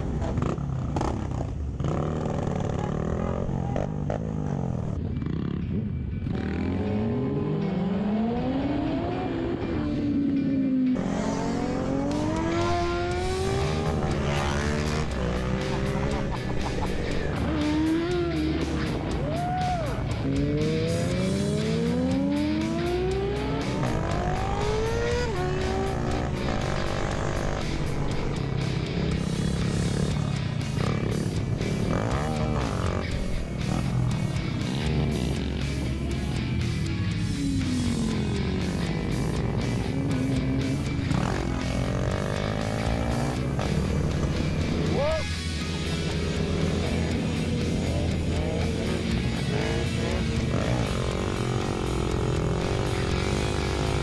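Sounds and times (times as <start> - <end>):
motorcycle engine accelerating: 0.0 - 19.2, 20.0 - 54.0
motorcycle engines running: 0.0 - 54.0.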